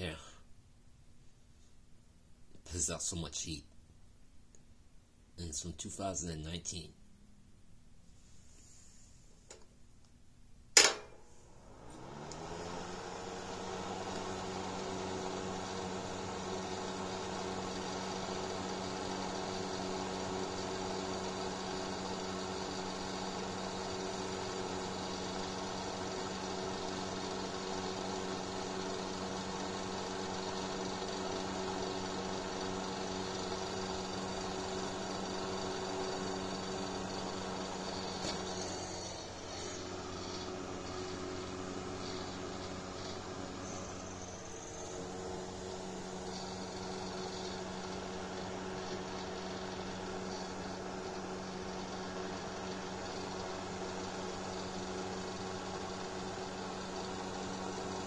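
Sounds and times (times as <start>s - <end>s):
heater fan motor humming: 10.7s - 58.0s.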